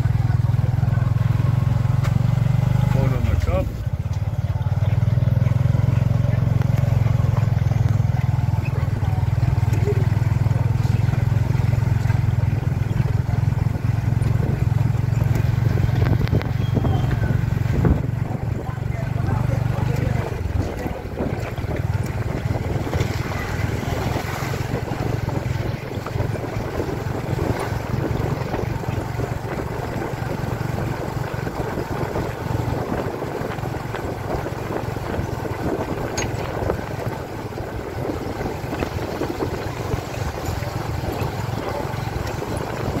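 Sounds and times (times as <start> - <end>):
small motorcycle engine running: 0.0 - 43.0
wind buffeting microphone: 4.7 - 43.0.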